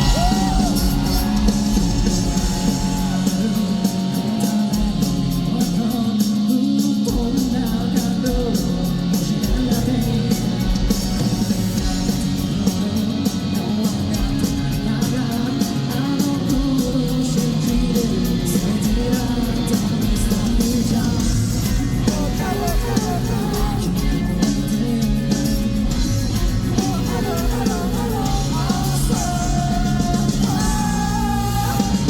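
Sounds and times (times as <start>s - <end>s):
distorted electric guitars: 0.0s - 32.0s
drums: 0.0s - 32.0s
person singing: 0.0s - 32.0s.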